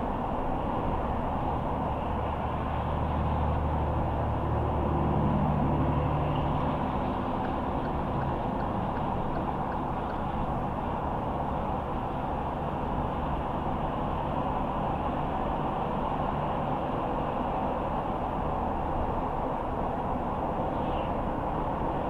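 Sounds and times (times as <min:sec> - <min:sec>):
car engine hum: 0:00.0 - 0:22.0
tyre and road noise: 0:00.0 - 0:22.0.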